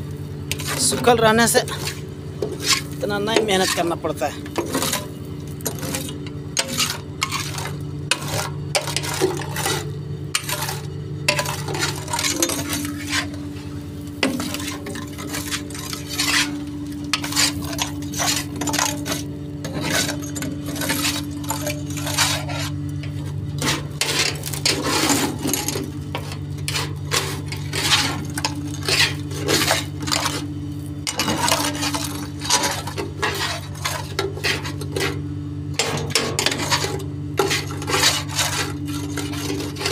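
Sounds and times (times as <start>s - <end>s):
truck engine humming: 0.0s - 39.9s
metal tool scraping steel floor: 0.5s - 35.2s, 35.8s - 39.9s.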